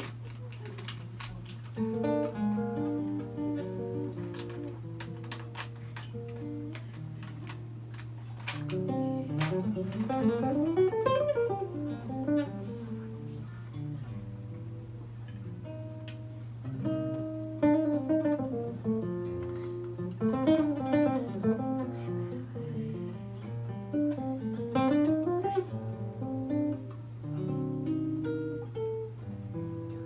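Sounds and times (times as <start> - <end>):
solo acoustic guitar: 0.0 - 30.0.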